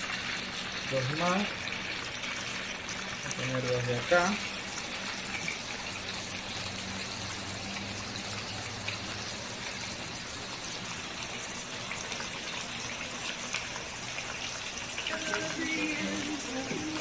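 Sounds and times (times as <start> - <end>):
oil sizzling and bubbling: 0.0 - 17.0.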